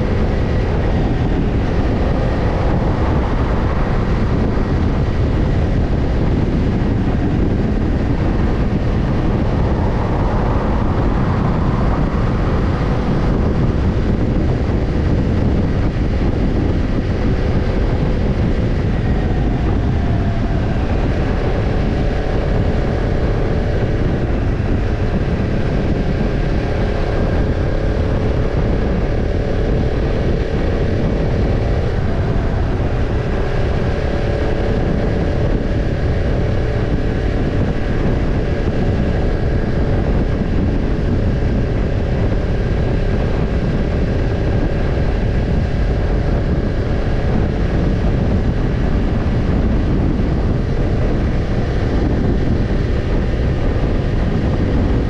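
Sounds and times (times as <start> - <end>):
motorcycle engine at steady speed: 0.0 - 55.0
wind rush on microphone: 0.0 - 55.0.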